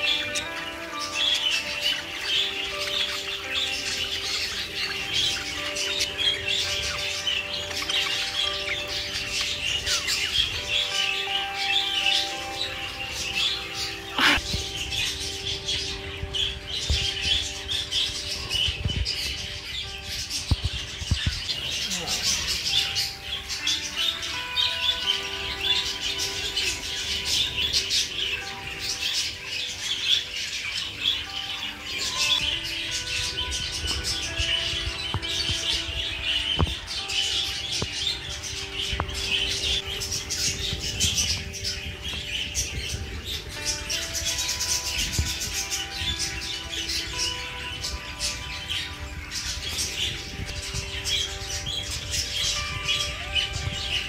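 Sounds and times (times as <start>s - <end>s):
background music with held notes: 0.0s - 54.0s
budgerigars chattering and chirping: 0.0s - 54.0s.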